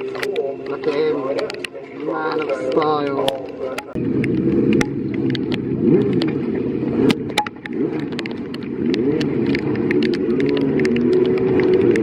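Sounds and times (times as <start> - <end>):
sharp clicks: 0.0 - 6.4, 7.1 - 12.0
racing motorcycle engines: 0.0 - 12.0.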